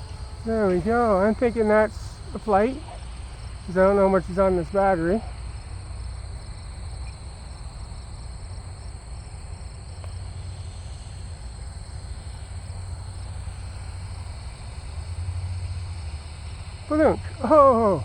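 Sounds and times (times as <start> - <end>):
crickets chirping: 0.0 - 18.0
high insect drone: 0.0 - 18.0.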